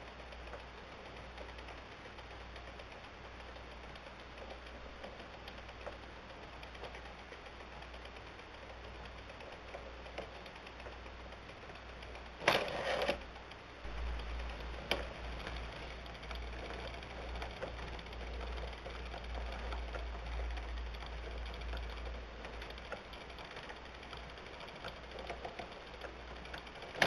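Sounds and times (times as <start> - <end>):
wooden gears ticking and clicking: 0.0 - 27.0.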